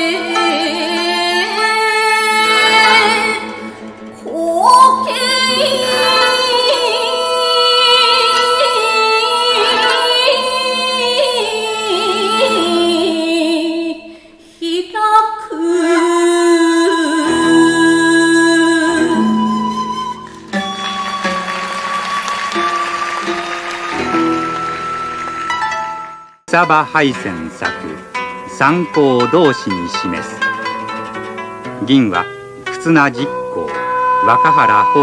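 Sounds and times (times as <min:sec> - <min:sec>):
instrumental accompaniment: 0:00.0 - 0:13.2, 0:16.9 - 0:35.0.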